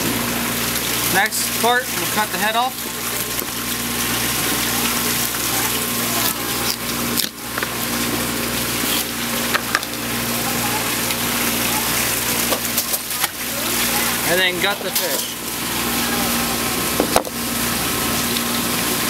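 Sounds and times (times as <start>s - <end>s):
low mechanical hum: 0.0s - 19.0s
rushing water-like noise: 0.0s - 19.0s.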